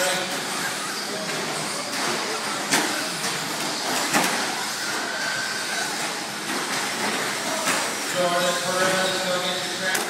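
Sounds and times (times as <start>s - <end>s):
toy trucks motor and tyre noise: 0.0s - 10.0s.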